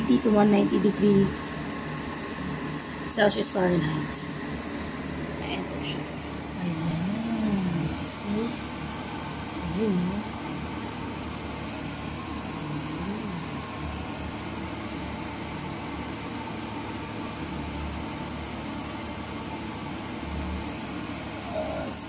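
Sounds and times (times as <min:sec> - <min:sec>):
oven fan whirring hum: 0:00.0 - 0:22.0.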